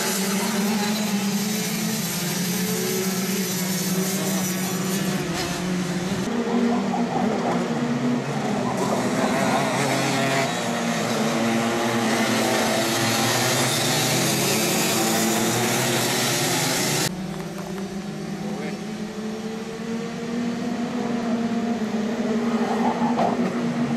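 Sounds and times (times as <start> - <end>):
kart engines racing past: 0.0 - 23.9.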